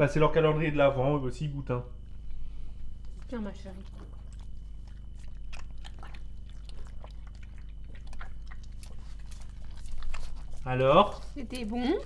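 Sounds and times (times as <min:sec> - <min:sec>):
dog chewing: 0:02.0 - 0:12.0.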